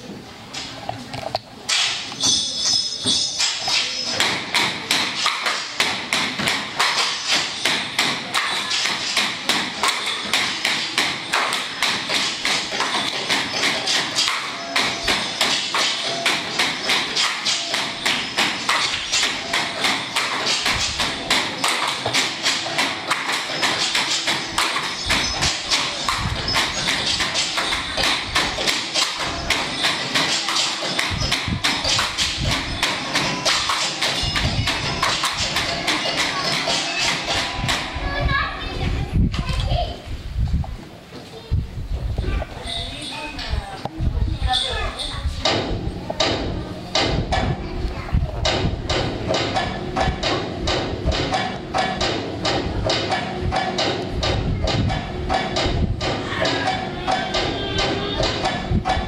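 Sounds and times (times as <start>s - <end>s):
bamboo poles clacking: 0.6s - 38.0s, 48.4s - 59.0s.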